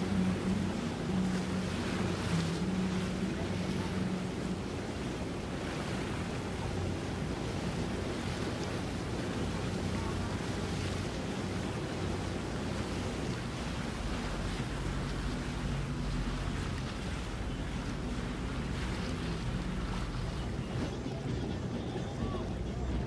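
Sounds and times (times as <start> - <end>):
faint low engine hum: 0.0 - 23.0
water washing: 0.0 - 23.0.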